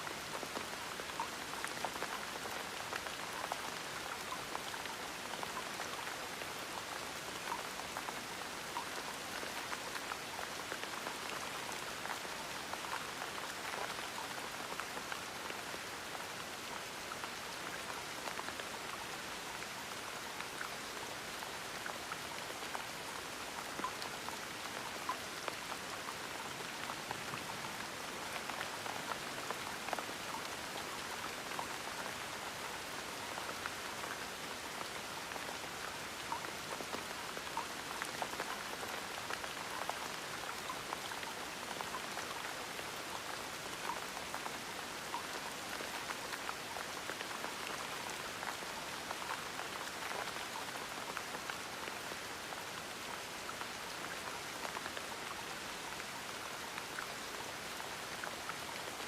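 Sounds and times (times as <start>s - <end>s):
gentle rain: 0.0s - 59.0s.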